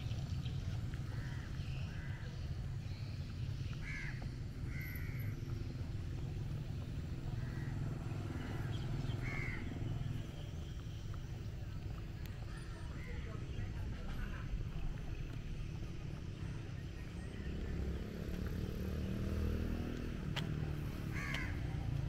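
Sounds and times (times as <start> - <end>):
birds calling: 0.0 - 19.7, 20.8 - 22.0.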